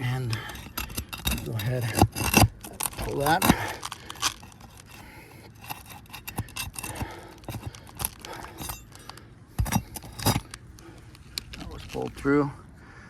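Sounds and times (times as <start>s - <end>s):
metal tool scraping nail: 0.0s - 10.6s.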